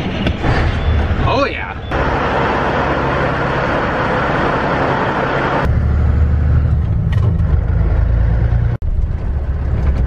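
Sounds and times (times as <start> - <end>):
deep rumble inside truck cab: 0.0 - 10.0
diesel truck engine running: 0.0 - 10.0.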